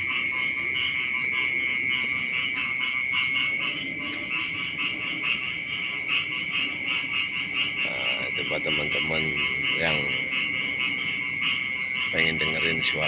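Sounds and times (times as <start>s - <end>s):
continuous high trill: 0.0s - 13.0s
frogs croaking: 0.0s - 13.0s.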